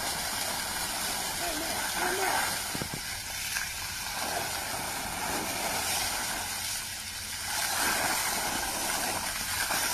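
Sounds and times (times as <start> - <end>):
water spraying from broken pipe: 0.0 - 9.9.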